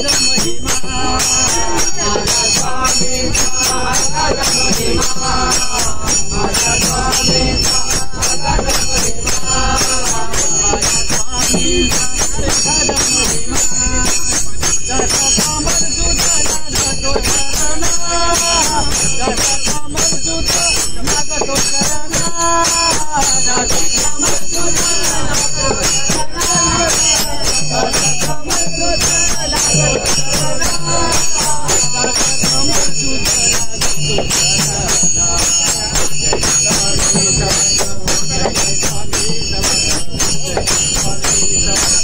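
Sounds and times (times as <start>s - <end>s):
jingling hand percussion: 0.0s - 42.0s
men singing in chorus: 0.0s - 42.0s.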